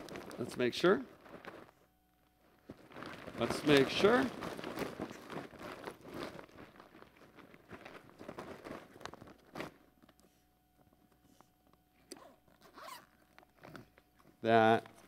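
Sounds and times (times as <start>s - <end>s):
plastic bag crinkling: 0.0s - 10.2s, 12.4s - 15.0s.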